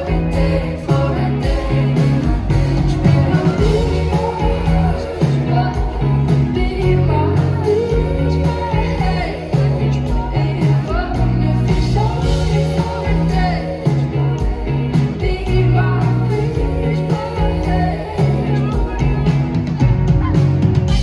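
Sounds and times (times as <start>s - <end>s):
woman singing: 0.0s - 19.4s
heavy bass line: 0.0s - 21.0s
steady drum beat: 0.0s - 21.0s.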